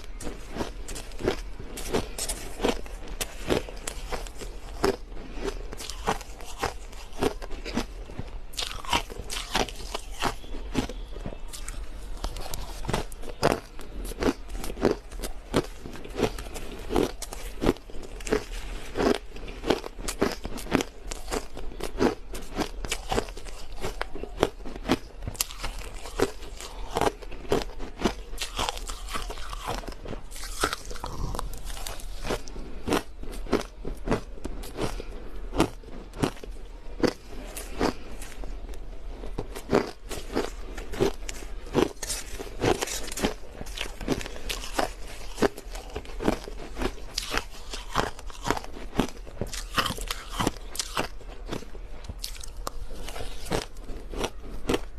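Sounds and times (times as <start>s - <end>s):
chewing crushed ice: 0.0s - 54.9s.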